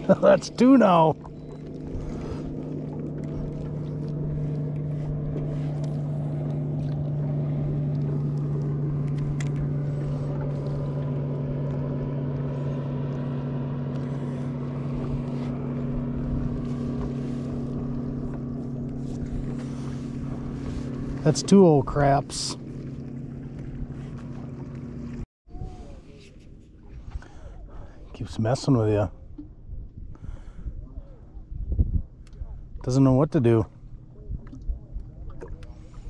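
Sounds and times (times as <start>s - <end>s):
boat motor humming: 0.0s - 36.0s.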